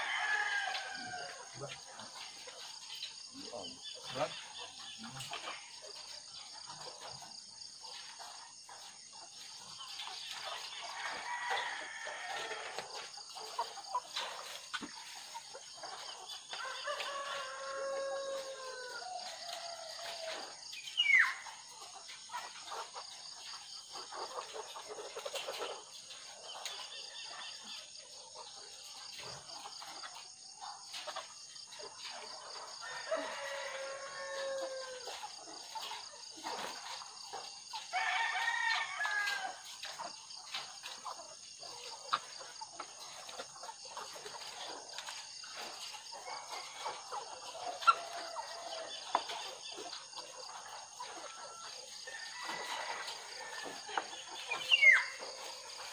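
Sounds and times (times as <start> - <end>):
hens clucking: 0.0 - 55.9.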